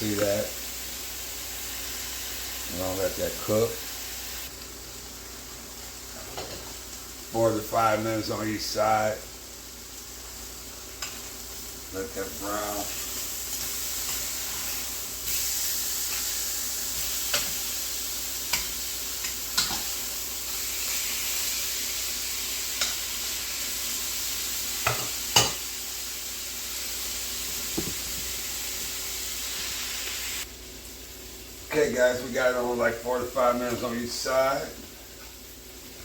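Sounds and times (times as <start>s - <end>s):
meat sizzling in a skillet: 0.0s - 36.0s.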